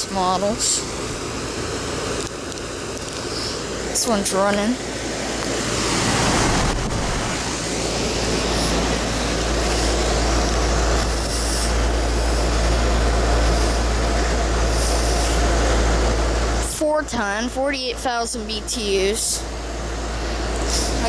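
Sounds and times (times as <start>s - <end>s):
compressor low hum: 0.0s - 21.0s
condenser fan rushing: 0.0s - 21.0s.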